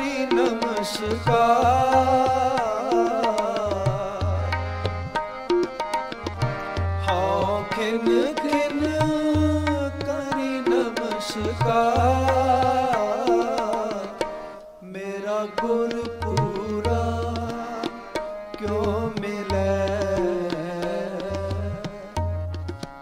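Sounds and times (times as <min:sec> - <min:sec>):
person singing ornamented line: 0:00.0 - 0:04.4, 0:07.0 - 0:22.4
tabla: 0:00.0 - 0:23.0.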